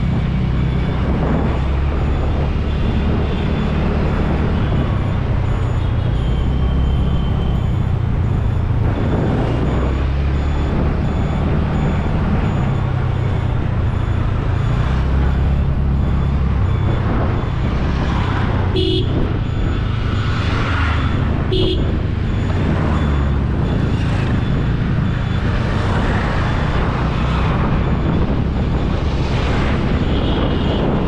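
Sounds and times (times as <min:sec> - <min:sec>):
wind noise on microphone: 0:00.0 - 0:31.0
horn beep: 0:00.5 - 0:28.4, 0:29.8 - 0:31.0.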